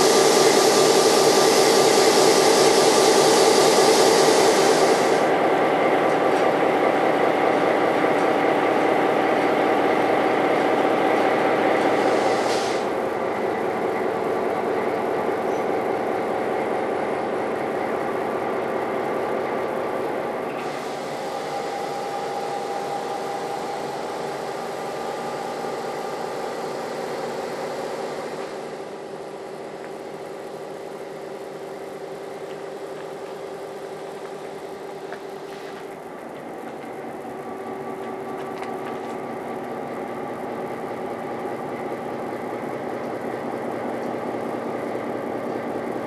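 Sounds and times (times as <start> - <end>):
diesel locomotive engine running: 0.0 - 46.0
rumbling rail noise: 0.0 - 46.0.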